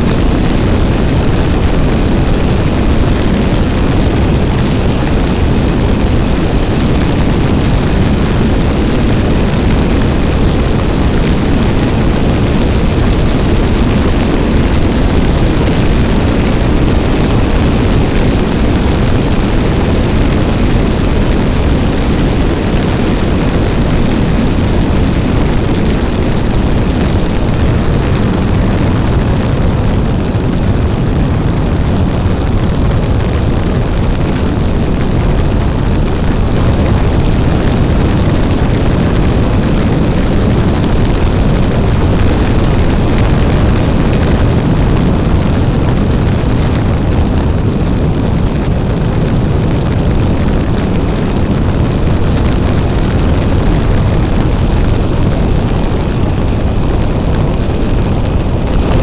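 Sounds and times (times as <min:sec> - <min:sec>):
airflow rushing over camera: 0:00.0 - 0:59.0
light aircraft engine droning: 0:00.0 - 0:59.0.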